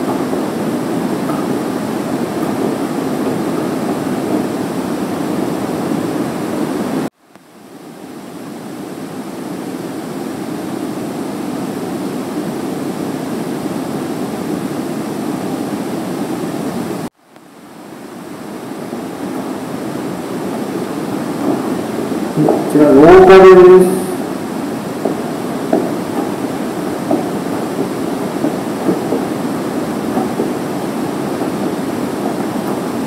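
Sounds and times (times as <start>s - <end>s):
rushing room noise: 0.0s - 33.0s.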